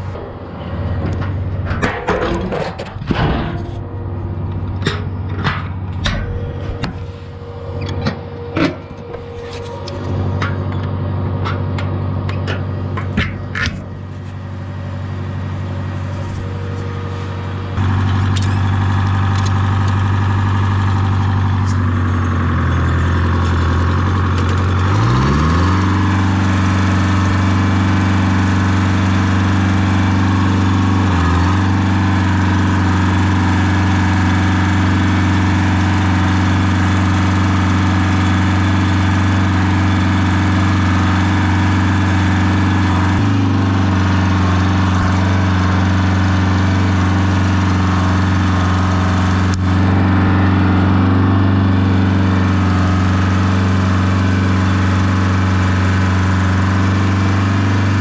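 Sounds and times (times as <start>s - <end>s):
farm machinery engine running: 0.0s - 58.0s.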